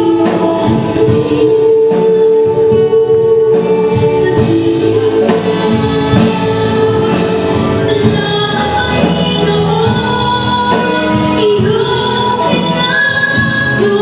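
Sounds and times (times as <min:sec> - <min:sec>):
instrumental accompaniment: 0:00.0 - 0:14.0
women singing into microphones: 0:00.0 - 0:14.0.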